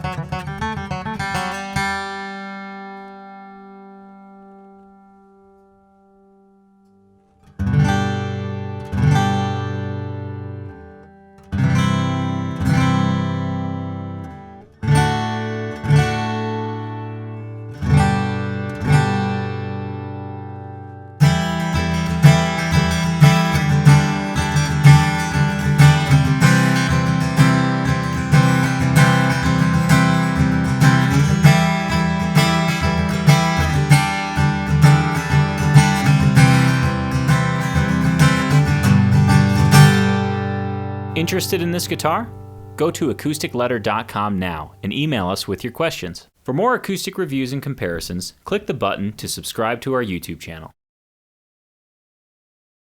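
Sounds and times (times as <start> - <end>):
acoustic guitar strumming: 0.0 - 47.6.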